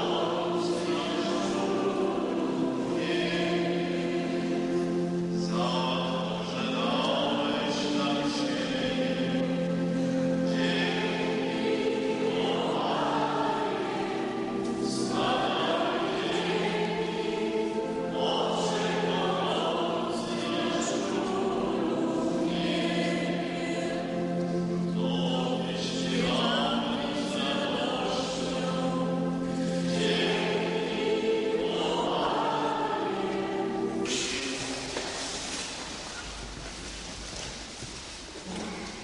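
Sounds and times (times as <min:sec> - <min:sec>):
congregation singing a hymn: 0:00.0 - 0:36.2.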